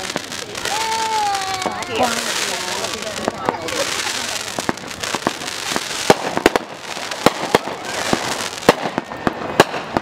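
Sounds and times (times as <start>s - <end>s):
fireworks hissing: 0.0s - 10.0s
sharp firework bangs: 0.0s - 10.0s.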